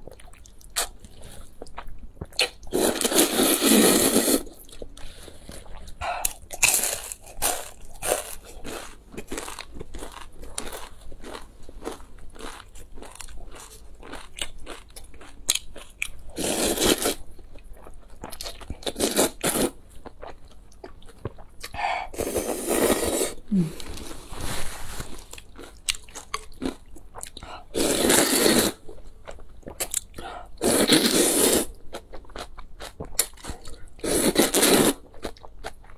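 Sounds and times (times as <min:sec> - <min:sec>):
person crunching and chewing food: 0:00.0 - 0:35.9.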